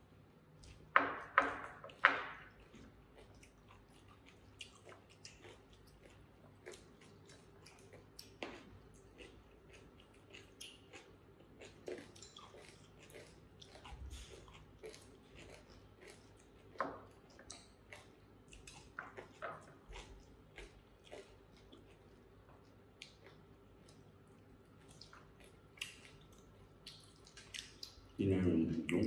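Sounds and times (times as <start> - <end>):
quiet chewing: 0.5 - 29.0.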